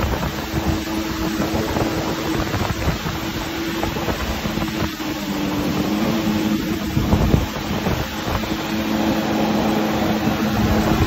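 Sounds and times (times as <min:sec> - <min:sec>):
churning wake water: 0:00.0 - 0:11.0
jet ski engine running: 0:00.0 - 0:11.0
wind buffeting microphone: 0:00.0 - 0:11.0.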